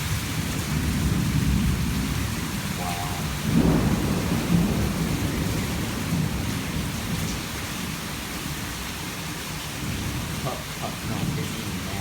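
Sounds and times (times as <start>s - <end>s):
heavy rain pouring: 0.0s - 12.0s
low rumble of thunder: 0.0s - 12.0s.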